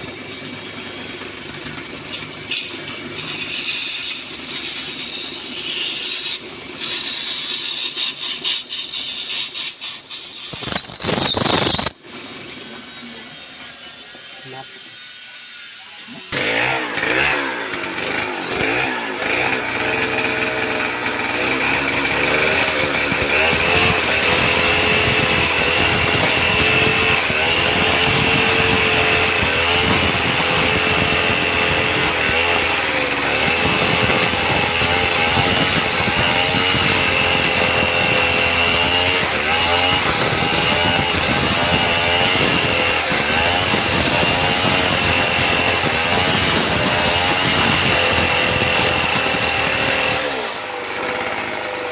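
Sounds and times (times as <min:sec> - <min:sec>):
power tool cutting wood: 0:00.0 - 0:51.9.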